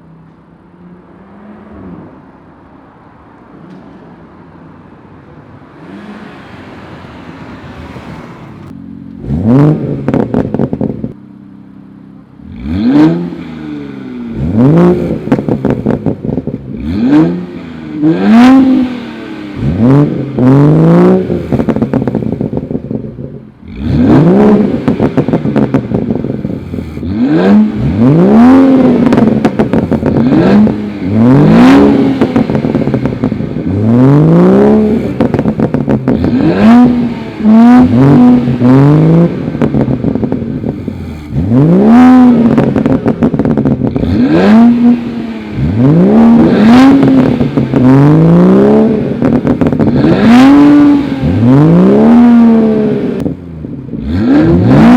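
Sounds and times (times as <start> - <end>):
car engine revving hard: 5.7 - 11.0, 12.4 - 22.7, 23.6 - 53.3, 53.9 - 54.9.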